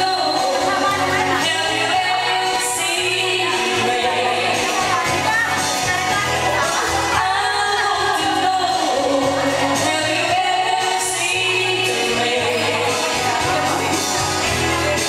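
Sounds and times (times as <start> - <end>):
pop backing track: 0.0 - 15.0
woman singing into microphone: 0.0 - 15.0.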